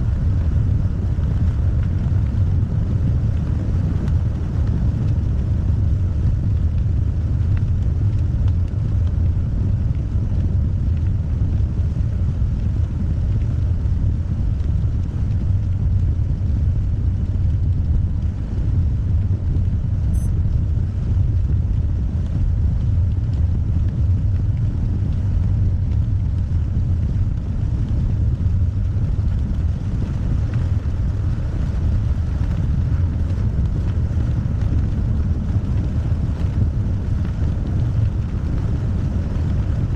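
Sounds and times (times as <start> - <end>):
car driving rumble: 5.0 - 39.8.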